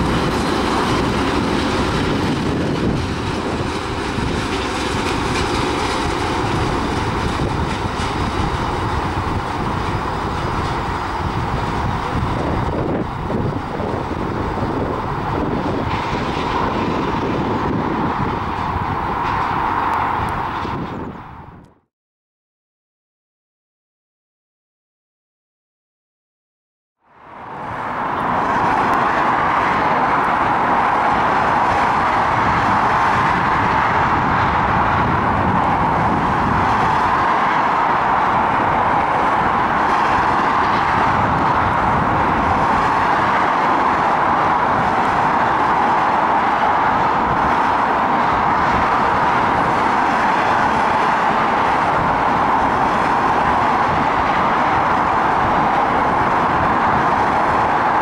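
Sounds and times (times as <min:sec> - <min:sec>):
diesel locomotive hauling wagons: 0:00.0 - 0:21.8, 0:27.0 - 0:58.0
distant traffic: 0:00.0 - 0:21.8, 0:27.0 - 0:58.0.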